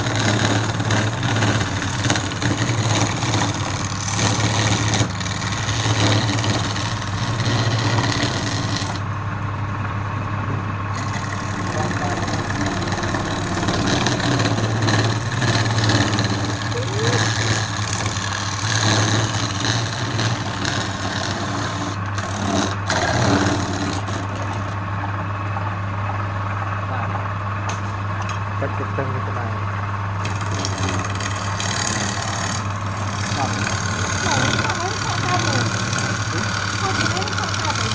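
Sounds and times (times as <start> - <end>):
turning tool cutting spinning wood: 0.0 - 9.2, 10.8 - 27.0, 29.7 - 37.9
wood lathe motor humming: 0.0 - 28.6, 29.6 - 37.9.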